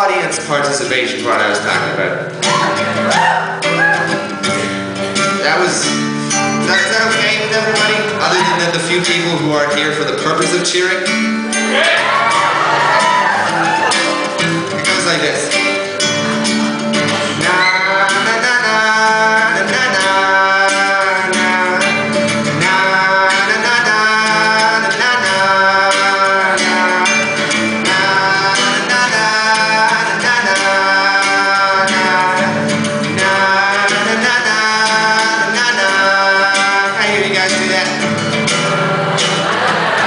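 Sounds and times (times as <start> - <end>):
acoustic guitar: 0.0 - 40.0
person singing: 0.0 - 40.0.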